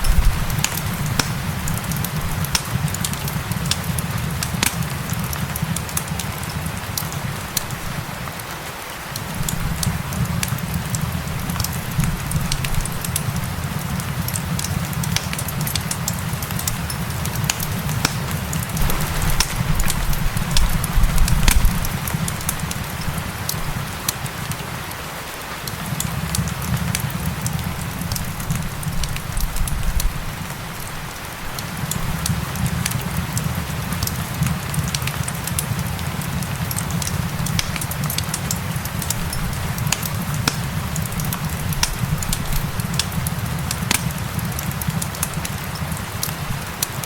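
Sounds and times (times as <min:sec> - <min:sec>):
fire crackling and popping: 0:00.0 - 0:47.0
gentle rain hissing: 0:00.0 - 0:47.0.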